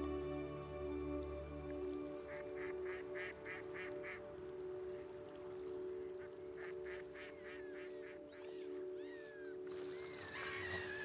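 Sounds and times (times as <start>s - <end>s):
soft music drone: 0.0s - 11.0s
waterbirds giving nasal calls: 2.2s - 11.0s.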